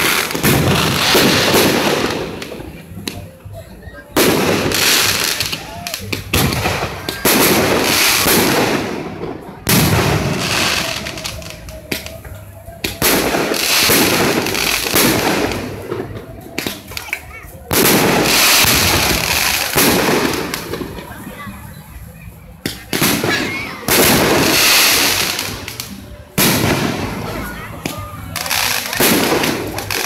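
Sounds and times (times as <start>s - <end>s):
firework hissing crackle: 0.0s - 3.2s, 4.2s - 21.2s, 22.8s - 30.0s
firework bangs: 0.0s - 3.3s, 4.2s - 21.2s, 22.6s - 30.0s.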